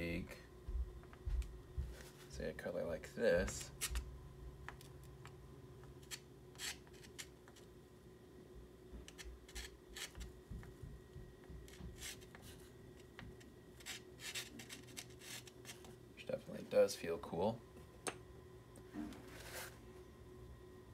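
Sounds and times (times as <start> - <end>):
thin steady hum: 0.0 - 20.9.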